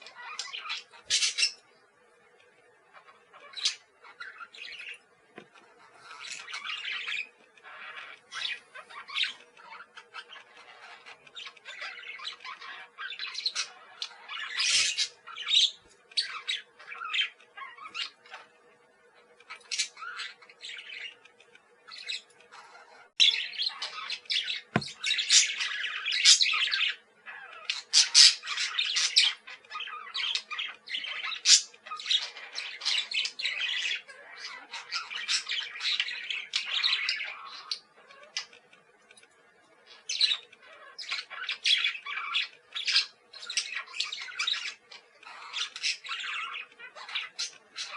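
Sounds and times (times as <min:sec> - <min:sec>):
parakeets chattering: 0:00.0 - 0:47.9.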